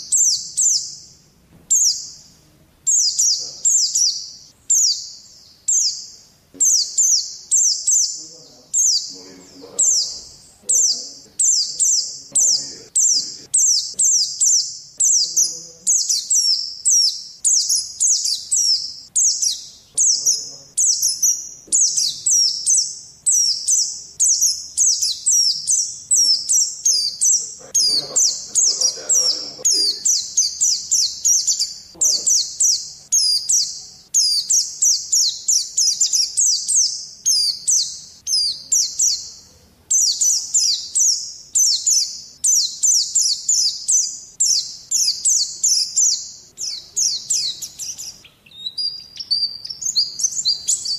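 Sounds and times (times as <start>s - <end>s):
bird chirping high sharp notes: 0.0s - 50.9s.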